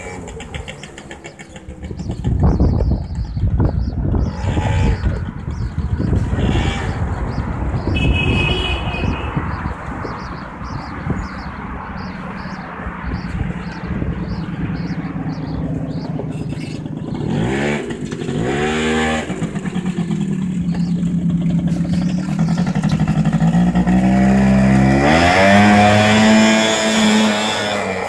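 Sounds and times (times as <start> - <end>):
quad bike engine revving: 0.0 - 11.4, 13.1 - 28.0.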